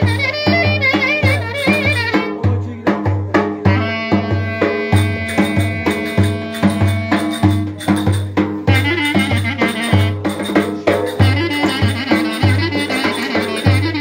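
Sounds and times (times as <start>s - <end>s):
clarinet melody: 0.0s - 2.5s, 3.6s - 14.0s
bass drum beat: 0.0s - 14.0s.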